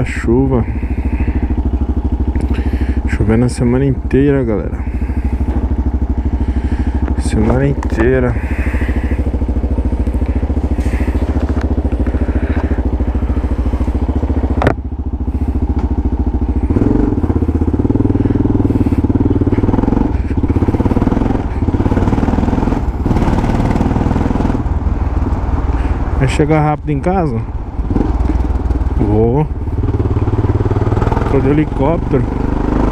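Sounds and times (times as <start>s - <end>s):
motorcycle engine riding: 0.0s - 32.9s.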